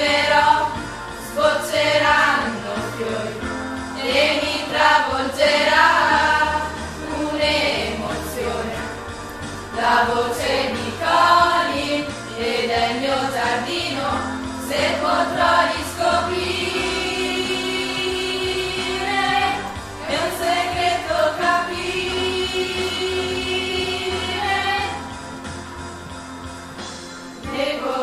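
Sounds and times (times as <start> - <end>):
choir singing: 0.0 - 9.1, 9.7 - 25.6, 27.4 - 28.0.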